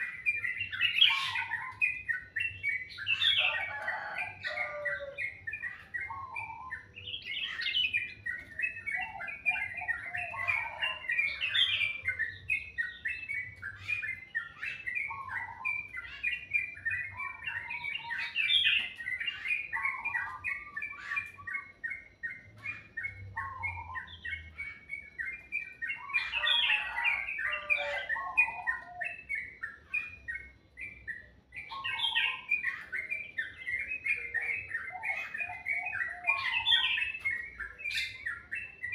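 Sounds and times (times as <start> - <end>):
low whistled bird phrases: 0.0 - 38.9
songbirds chirping and trilling: 0.0 - 38.9.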